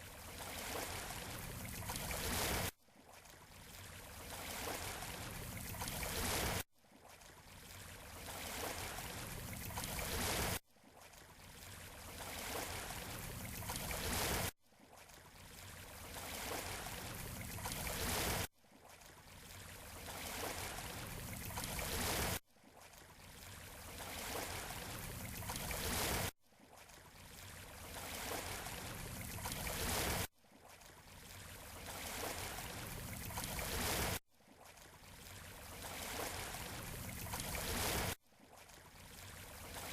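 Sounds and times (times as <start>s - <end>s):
waves washing on shore: 0.0s - 14.6s, 15.3s - 18.5s, 19.2s - 22.4s, 23.1s - 39.9s.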